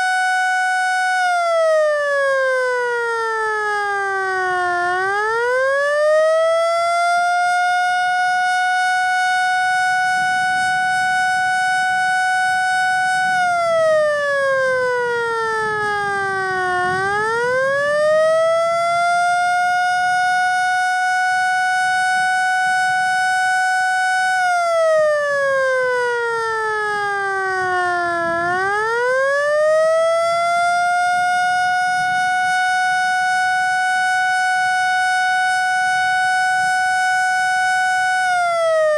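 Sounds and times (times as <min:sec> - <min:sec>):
electromechanical siren wailing: 0:00.0 - 0:38.9.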